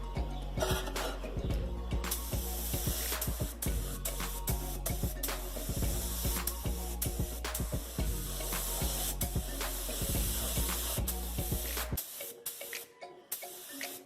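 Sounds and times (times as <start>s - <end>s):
paint spray gun hissing: 2.1s - 14.0s.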